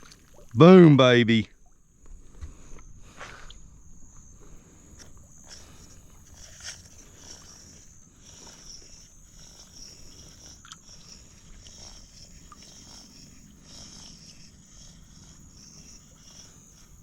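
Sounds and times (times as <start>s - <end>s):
night insects chirping: 0.0s - 17.0s.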